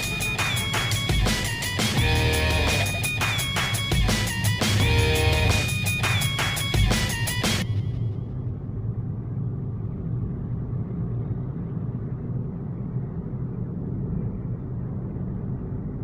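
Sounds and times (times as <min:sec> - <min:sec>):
road vehicle rumble: 0:00.0 - 0:16.0.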